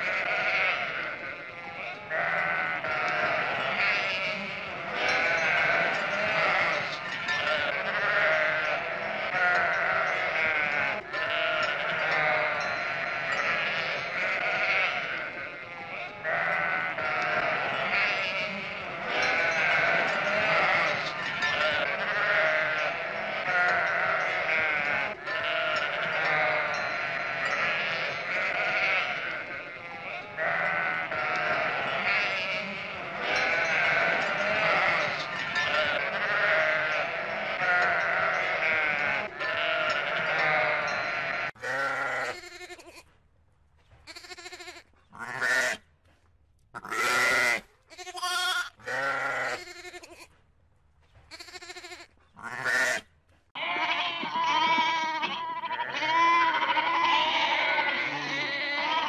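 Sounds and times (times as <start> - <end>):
sheep bleating: 0.0 - 43.0, 44.1 - 45.8, 46.8 - 50.3, 51.3 - 59.0.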